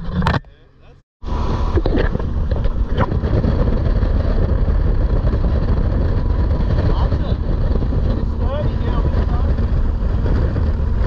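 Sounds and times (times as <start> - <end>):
motorboat engine running: 0.0 - 11.0
rush of wind and water: 1.2 - 11.0.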